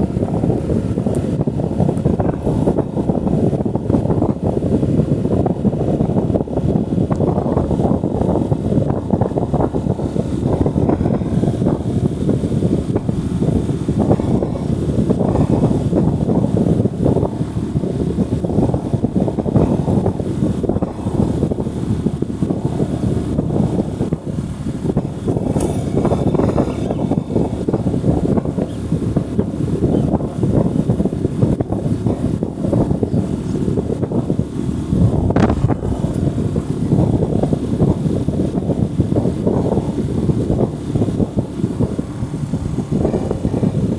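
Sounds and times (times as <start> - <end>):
motorcycle ride noise: 0.0 - 43.9
wind buffeting microphone: 0.0 - 43.9.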